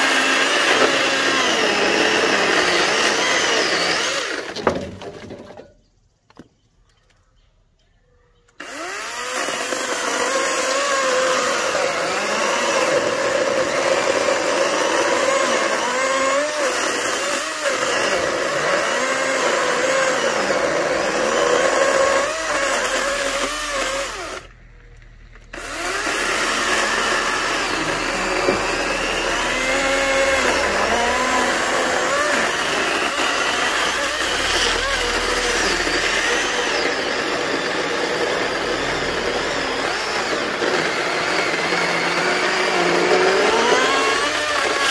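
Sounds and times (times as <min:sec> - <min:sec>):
electric chainsaw cutting wood: 0:00.0 - 0:05.6, 0:08.6 - 0:44.9.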